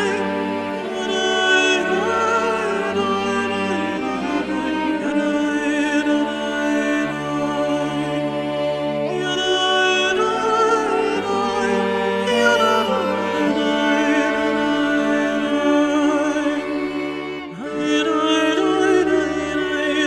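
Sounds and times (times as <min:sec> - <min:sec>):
person singing with vibrato: 0:00.0 - 0:20.0.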